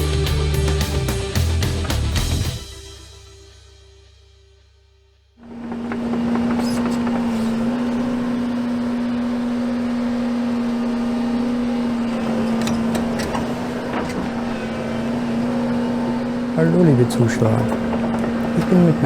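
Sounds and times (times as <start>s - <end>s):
excavator diesel engine humming: 0.0s - 2.8s, 5.4s - 19.0s.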